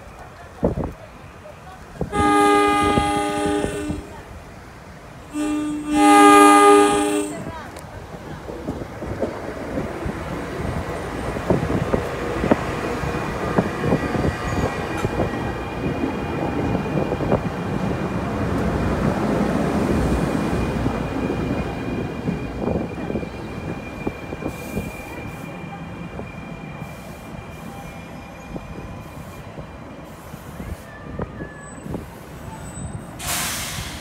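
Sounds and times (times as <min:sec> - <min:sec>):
train wheels rumbling: 0:00.0 - 0:34.0.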